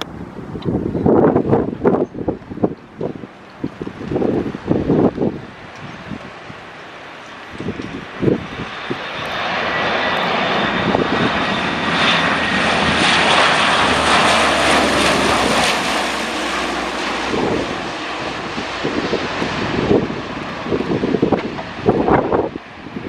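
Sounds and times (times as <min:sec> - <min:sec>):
aircraft passing overhead: 0:00.0 - 0:23.0.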